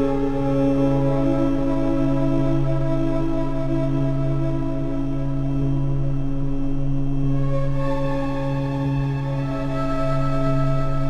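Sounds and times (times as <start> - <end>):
ambient drone music: 0.0 - 11.0.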